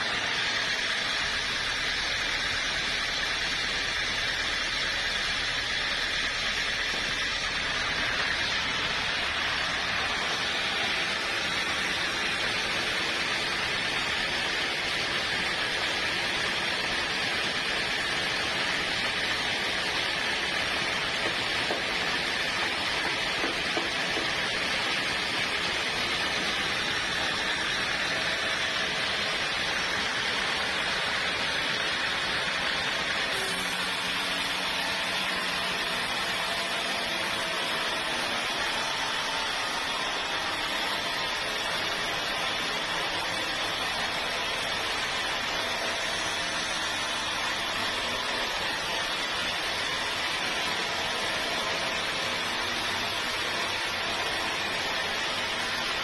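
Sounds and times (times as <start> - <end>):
sawmill machinery rushing noise: 0.0 - 56.0.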